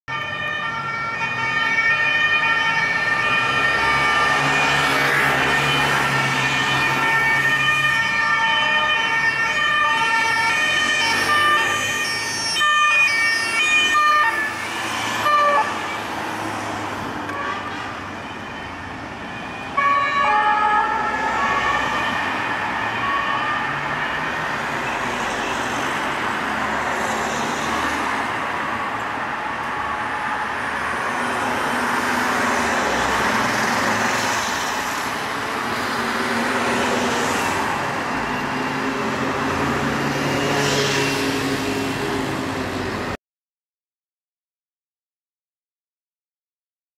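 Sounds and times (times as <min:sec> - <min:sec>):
traffic and engines: 0:00.1 - 0:43.2
two-tone police sirens: 0:00.1 - 0:43.2.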